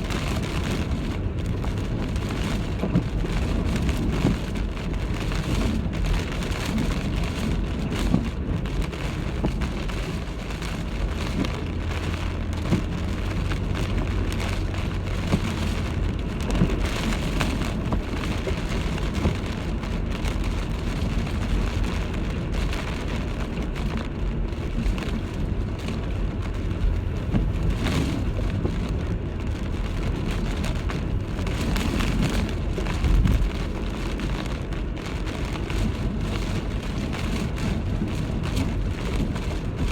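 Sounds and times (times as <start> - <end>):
heavy rain beating down: 0.0 - 39.9
low rumble of wind: 0.0 - 39.9.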